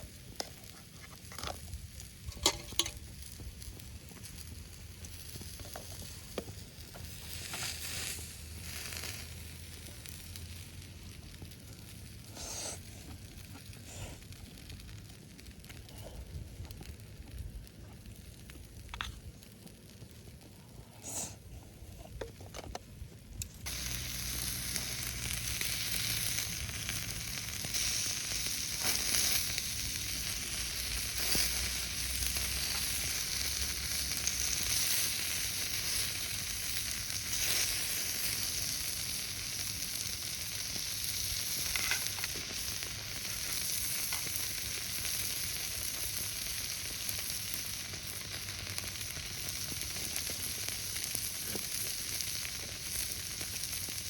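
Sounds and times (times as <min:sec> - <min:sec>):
beef sizzling on a griddle: 0:00.0 - 0:15.6, 0:23.6 - 0:54.0.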